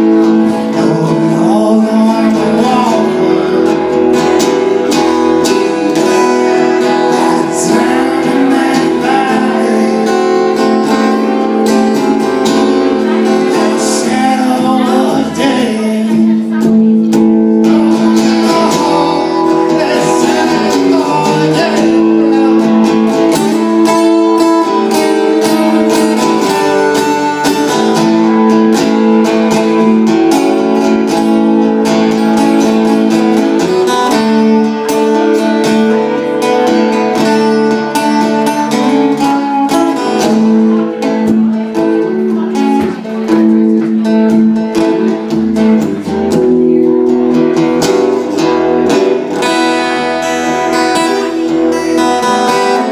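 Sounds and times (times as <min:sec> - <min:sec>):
acoustic guitar strumming chords: 0:00.0 - 0:52.9.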